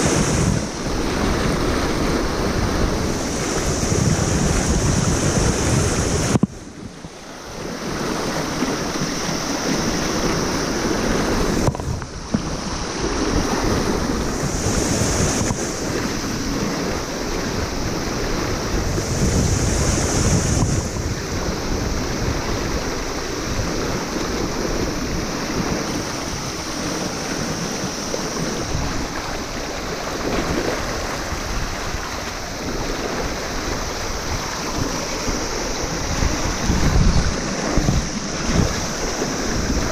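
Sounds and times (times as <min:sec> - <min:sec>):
river rapids rushing: 0:00.0 - 0:39.9
wind buffeting microphone: 0:00.0 - 0:39.9.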